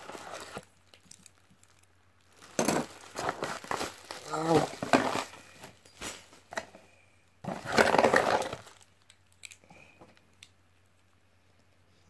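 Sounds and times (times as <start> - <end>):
plastic parts rustling and clattering: 0.0 - 10.2.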